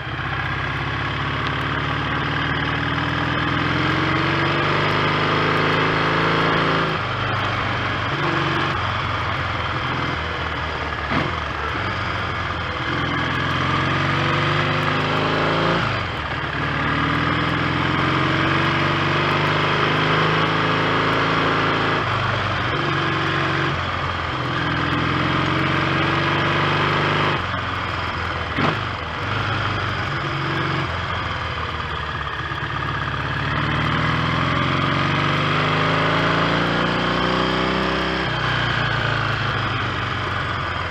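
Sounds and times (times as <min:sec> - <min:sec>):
motorcycle engine changing gears: 0:00.2 - 0:40.9.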